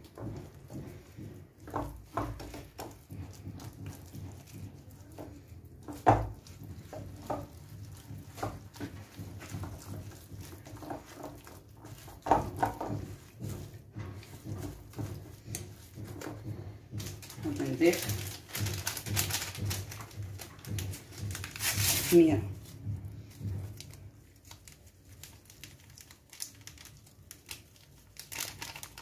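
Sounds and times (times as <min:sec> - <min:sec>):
whisk beating thick batter: 0:00.0 - 0:29.0.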